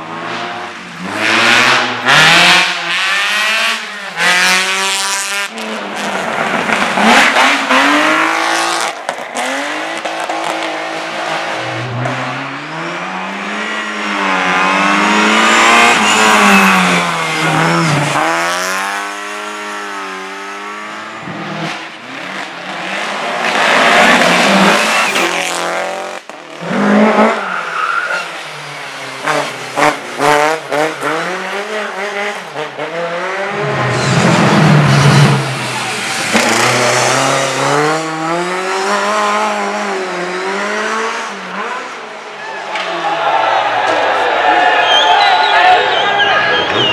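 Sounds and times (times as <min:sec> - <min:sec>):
race car engines at high revs: 0:00.0 - 0:42.9.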